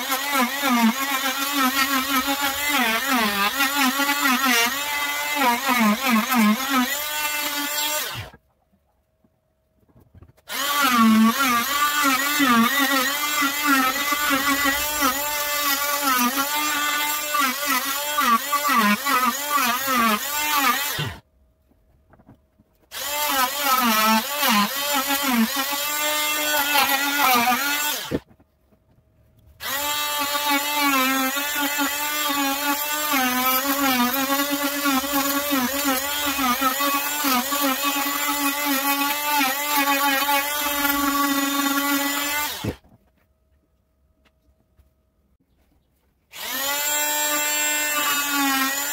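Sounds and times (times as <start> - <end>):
oscillating multi-tool cutting wood: 0.0 - 8.4, 10.3 - 21.2, 22.8 - 28.4, 29.6 - 42.8, 46.3 - 48.9.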